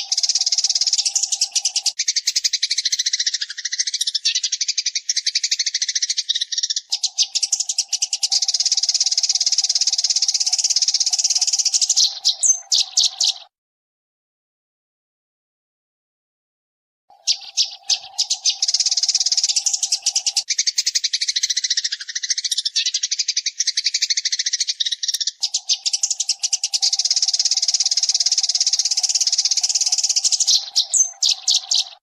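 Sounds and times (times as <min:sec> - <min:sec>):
sparrows chattering: 0:00.0 - 0:13.5, 0:17.1 - 0:32.0.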